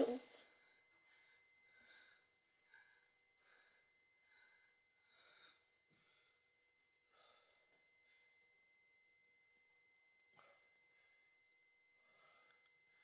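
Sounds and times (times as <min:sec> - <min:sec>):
faint breathing: 0:00.2 - 0:08.6, 0:10.3 - 0:13.0.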